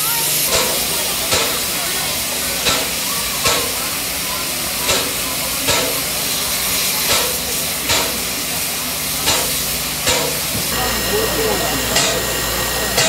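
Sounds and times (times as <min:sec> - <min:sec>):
steam locomotive hissing: 0:00.0 - 0:13.0
steam locomotive puffs: 0:00.0 - 0:13.0.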